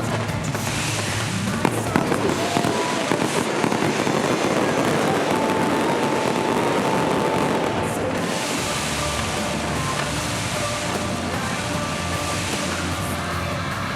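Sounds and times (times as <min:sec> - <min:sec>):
fireworks crackling: 0:00.0 - 0:13.9
sharp fireworks pops: 0:00.0 - 0:13.9.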